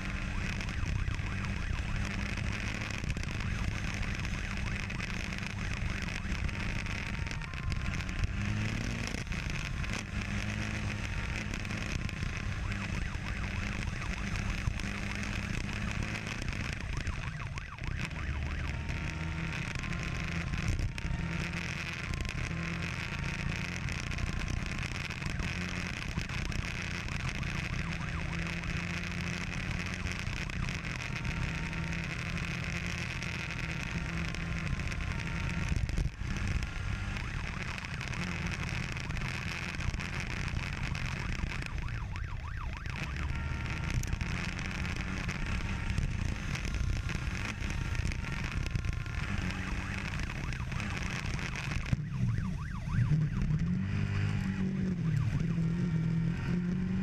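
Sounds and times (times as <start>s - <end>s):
motorcycle engines revving: 0.0s - 57.0s
wind and road noise: 0.0s - 57.0s.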